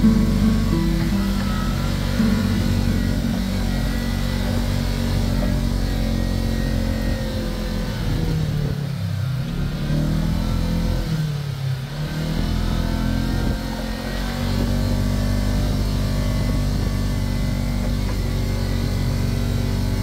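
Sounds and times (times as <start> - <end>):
side-by-side engine running: 0.0 - 20.0.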